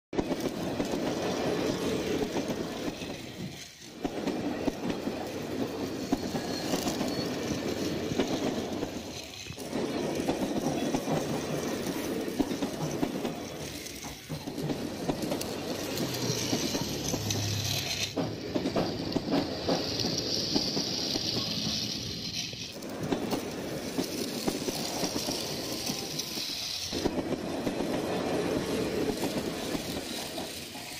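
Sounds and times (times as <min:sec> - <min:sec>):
toy train running on track: 0:00.2 - 0:30.9.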